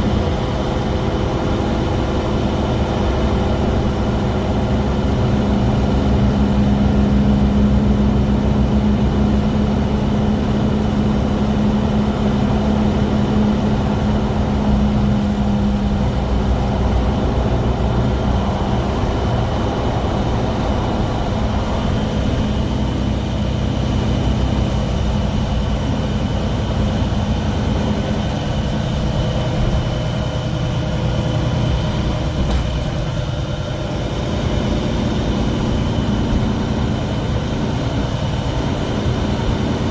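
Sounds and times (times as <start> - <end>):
bus engine rumble: 0.0 - 39.9
loud droning hum: 0.0 - 39.9.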